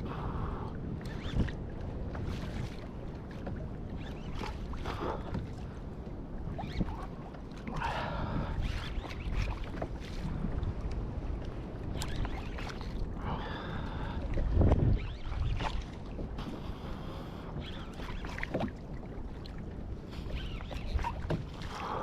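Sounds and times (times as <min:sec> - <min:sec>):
water moving around kayak: 0:00.0 - 0:22.0
wind on microphone: 0:00.0 - 0:22.0.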